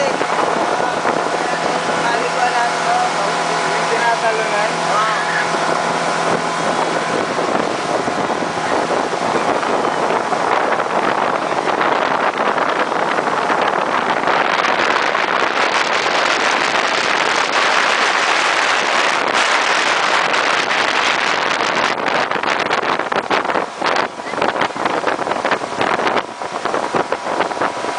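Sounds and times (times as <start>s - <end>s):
churning wake water: 0.0s - 27.9s
wind buffeting microphone: 0.0s - 27.9s.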